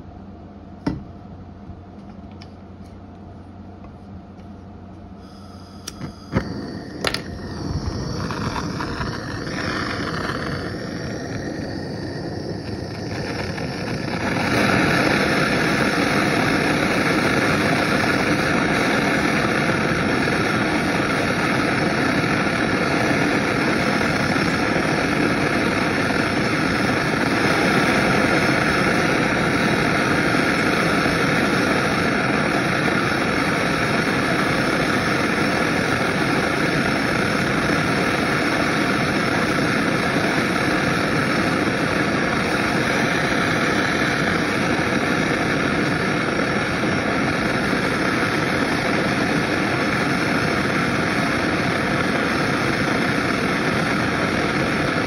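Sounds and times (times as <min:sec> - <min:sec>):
gas torch hissing: 0:05.0 - 0:55.0.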